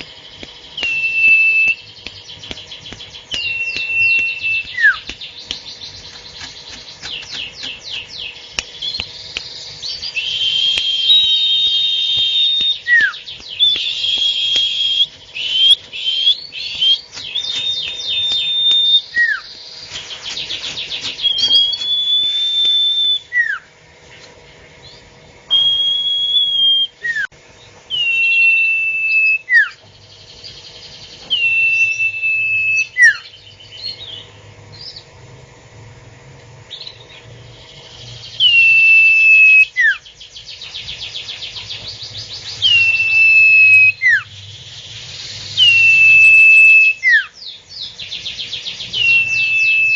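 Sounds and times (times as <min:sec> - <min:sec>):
songbird trilling and whistling: 0:00.0 - 0:23.7, 0:24.8 - 0:27.3, 0:27.9 - 0:35.1, 0:36.7 - 0:49.9.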